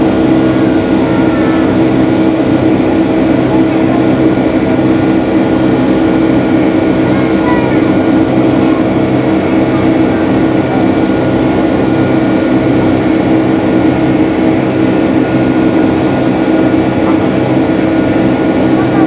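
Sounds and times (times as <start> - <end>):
jet engine drone in cabin: 0.0 - 19.0
steady hum tone: 0.0 - 19.0.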